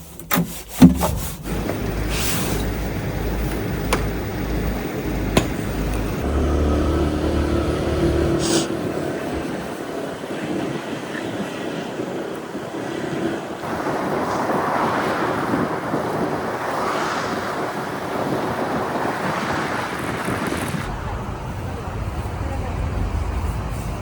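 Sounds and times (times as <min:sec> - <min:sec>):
vehicle and road noise: 0:00.2 - 0:24.0
wind on microphone: 0:01.4 - 0:24.0.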